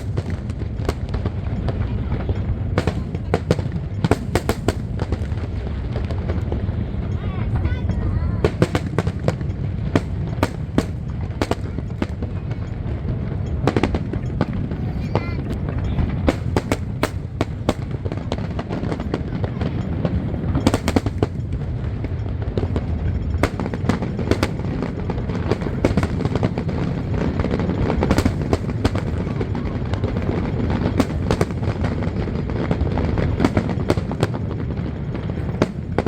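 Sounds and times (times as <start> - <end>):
fireworks bursting and cracking: 0.0 - 36.0.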